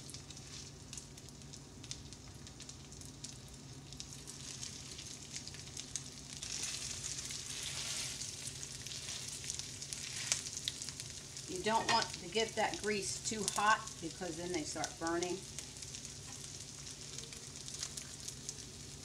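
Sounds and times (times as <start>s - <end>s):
fish cakes sizzling in oil: 0.0s - 19.0s.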